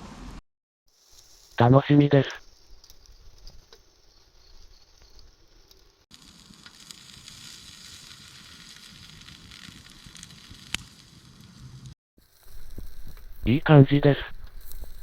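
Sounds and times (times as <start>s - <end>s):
sausages sizzling: 0.9s - 1.7s, 2.4s - 15.0s.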